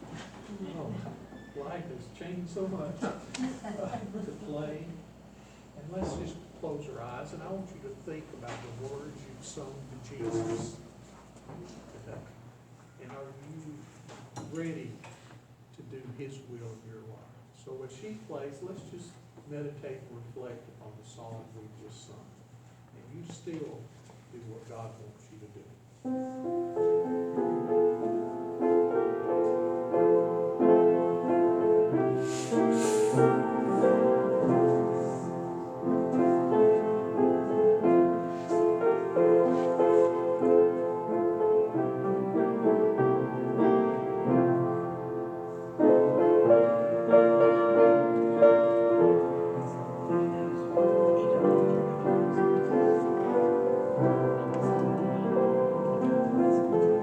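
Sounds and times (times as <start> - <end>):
hymn-style piano piece: 0.0 - 13.8, 23.1 - 57.0.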